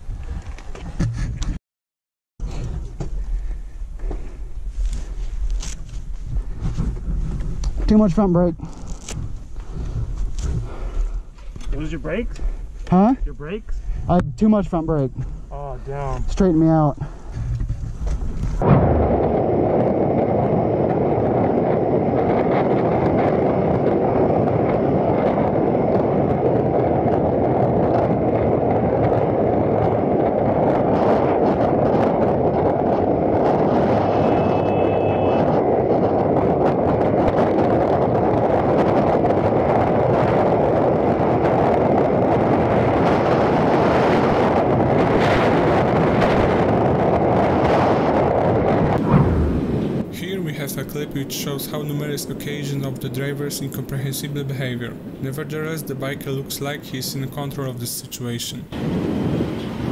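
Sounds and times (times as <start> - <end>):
wind rush over microphone: 0.0 - 1.6, 2.4 - 59.9.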